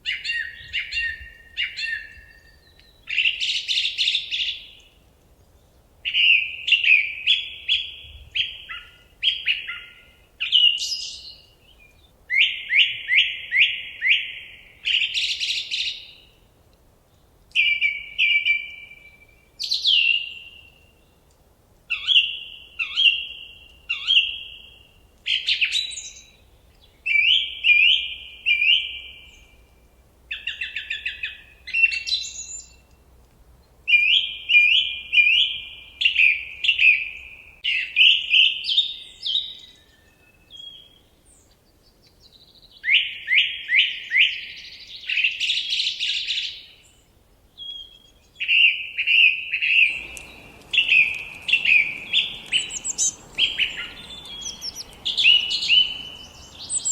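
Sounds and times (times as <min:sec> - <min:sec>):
songbird singing: 0:00.0 - 0:16.5, 0:17.1 - 0:56.9.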